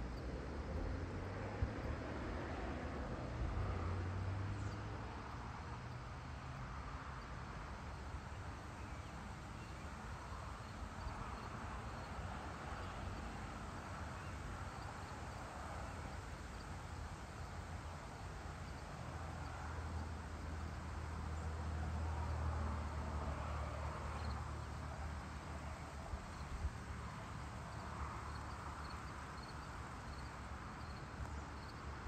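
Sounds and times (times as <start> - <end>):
crickets chirping: 0.2 - 32.0.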